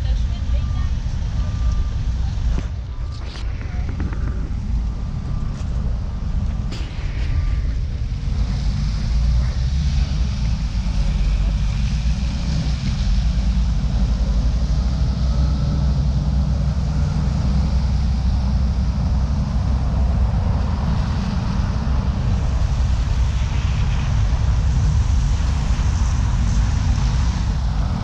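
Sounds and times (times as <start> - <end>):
traffic on a wet road: 0.0 - 28.0
wind buffeting the microphone: 0.0 - 28.0.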